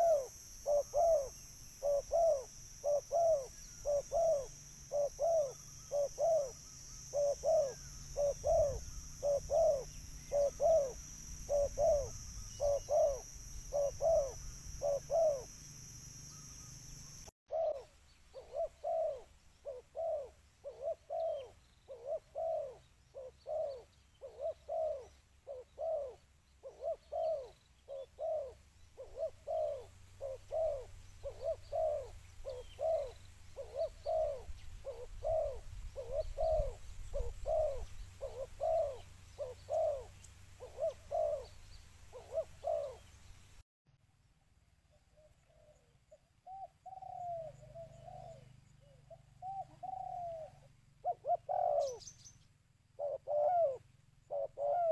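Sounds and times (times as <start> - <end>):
dove cooing: 0.0 - 15.6, 17.5 - 43.1, 45.2 - 52.2, 53.0 - 54.9.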